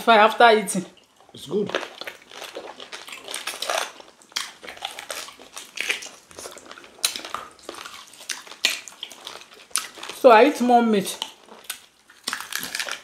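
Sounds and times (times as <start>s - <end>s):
wet chewing and smacking: 0.8s - 10.2s, 11.1s - 13.0s.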